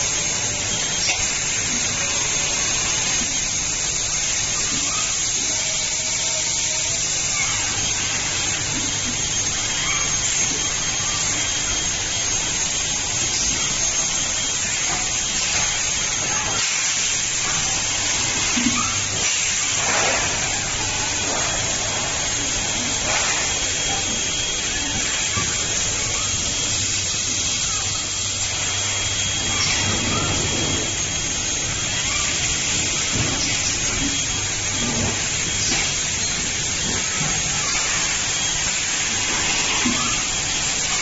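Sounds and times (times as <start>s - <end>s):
machine hiss: 0.0s - 41.0s.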